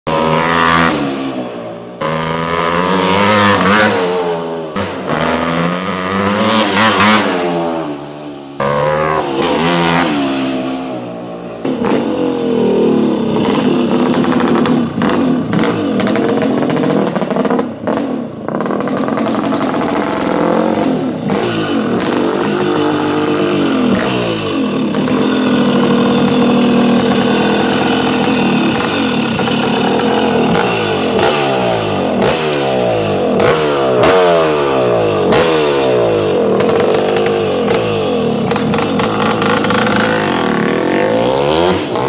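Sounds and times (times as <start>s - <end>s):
dirt bike engine revving: 0.1s - 42.0s.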